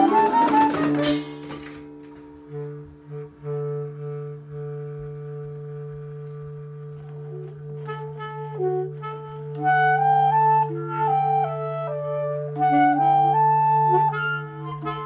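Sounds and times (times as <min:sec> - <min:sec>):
clarinets and alto saxophone: 0:00.0 - 0:15.0.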